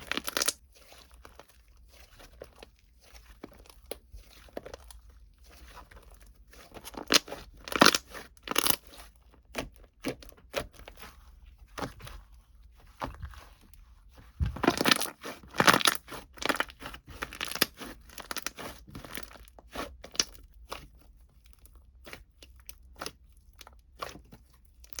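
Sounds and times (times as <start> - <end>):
crinkling and crunching: 0.0 - 25.0.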